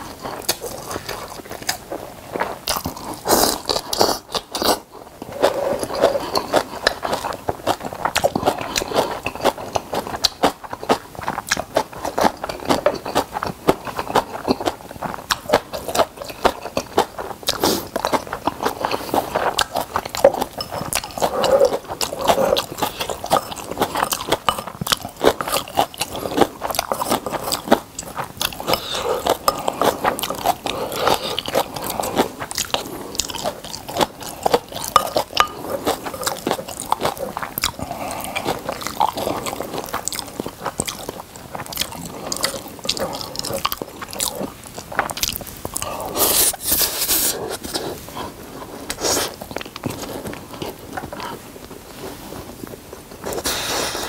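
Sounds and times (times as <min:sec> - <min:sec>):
wet chewing and crunching: 0:00.0 - 0:53.7.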